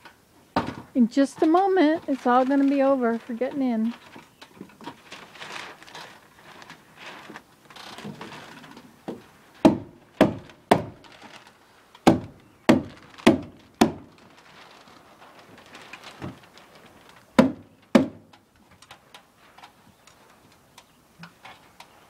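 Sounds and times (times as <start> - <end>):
rustling and handling noise: 0.0 - 22.0.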